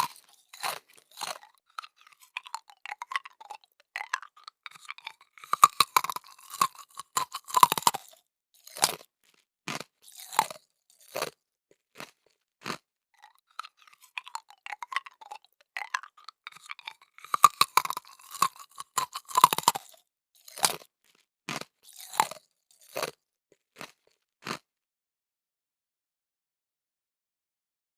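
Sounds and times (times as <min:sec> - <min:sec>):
chewing crispy pork skin: 0:00.0 - 0:24.7.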